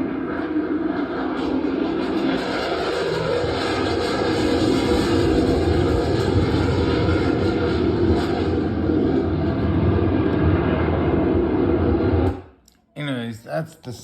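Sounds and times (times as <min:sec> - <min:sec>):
loud bass-heavy roar from speakers: 0:00.0 - 0:12.4.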